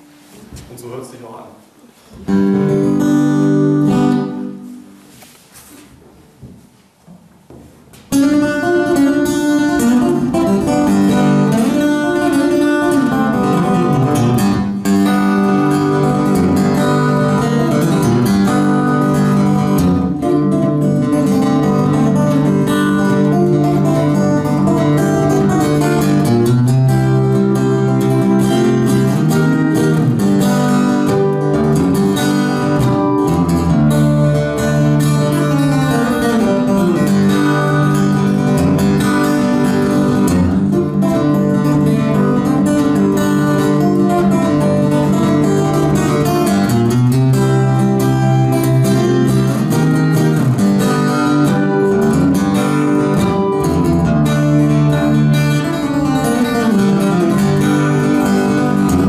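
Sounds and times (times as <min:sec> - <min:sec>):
fingerstyle acoustic guitar: 0:00.0 - 0:00.7, 0:01.7 - 0:59.0.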